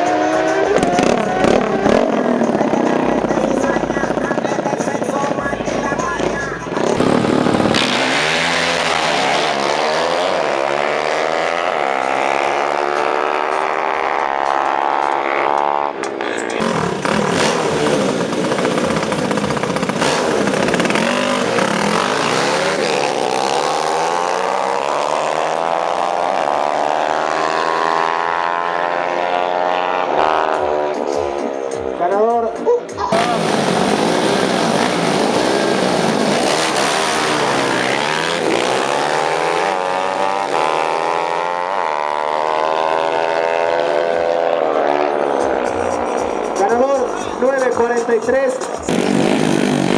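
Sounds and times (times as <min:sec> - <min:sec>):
motorcycle engines revving: 0:00.0 - 0:49.9.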